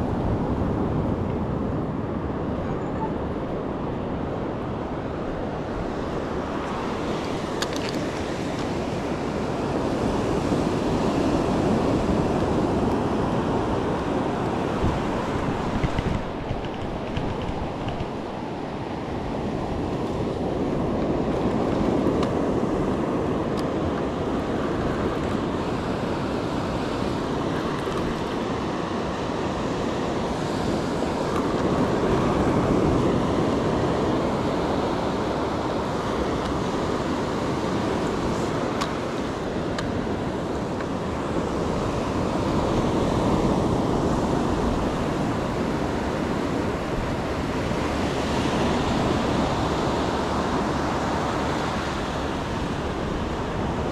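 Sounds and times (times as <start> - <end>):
ocean surf breaking: 3.3 - 53.9.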